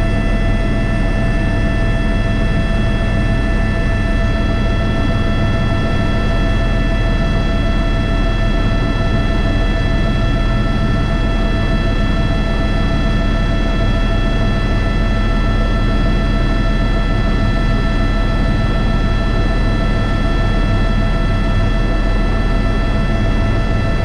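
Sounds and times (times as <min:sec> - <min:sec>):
helicopter rotor rumble: 0:00.0 - 0:24.0.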